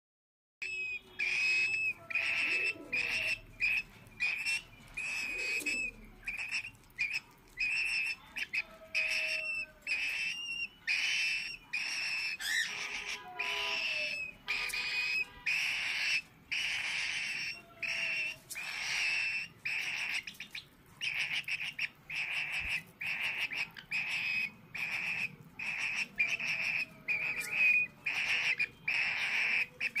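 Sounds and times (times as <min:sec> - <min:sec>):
bird chick raspy begging calls: 0:00.6 - 0:30.0.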